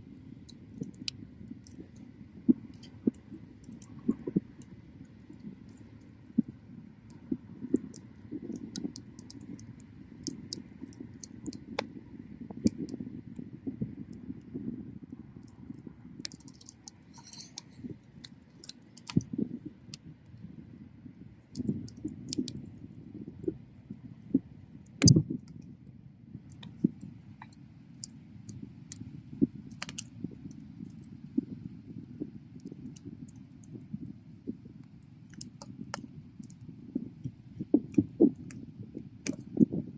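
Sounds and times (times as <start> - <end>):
low rumble of flame: 0.0 - 39.9
wood bonfire crackling and popping: 0.4 - 20.6, 21.5 - 23.4, 24.9 - 25.7, 26.4 - 34.1, 34.7 - 39.8.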